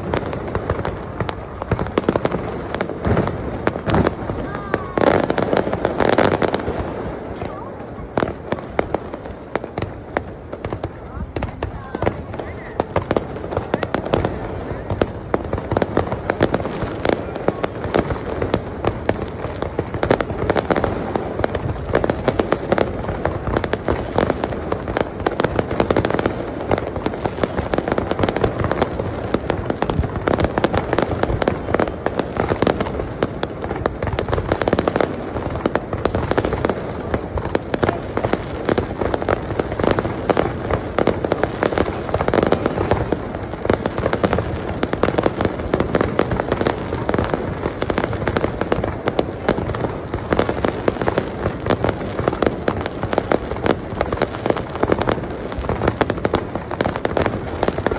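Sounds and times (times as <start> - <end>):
fireworks bangs: 0.0 - 57.9.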